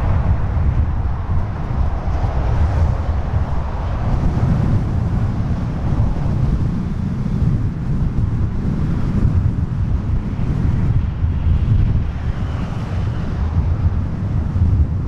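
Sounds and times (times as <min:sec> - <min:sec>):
jet engines low rumble: 0:00.0 - 0:15.0
wind buffeting microphone: 0:00.0 - 0:15.0.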